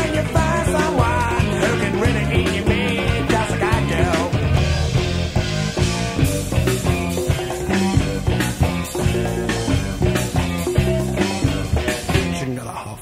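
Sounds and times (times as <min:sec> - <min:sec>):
funk rock band music: 0:00.0 - 0:12.7.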